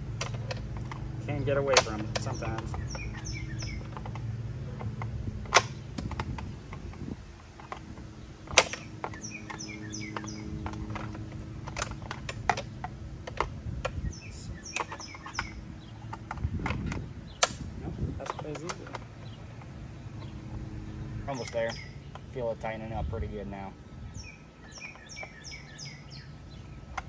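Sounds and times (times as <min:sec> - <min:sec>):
bird chirping: 0:01.2 - 0:27.0.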